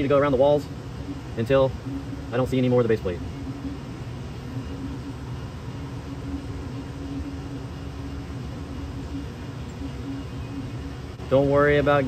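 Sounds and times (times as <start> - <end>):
constant tone: 0.0 - 12.0
low mechanical hum of machinery: 0.0 - 12.0.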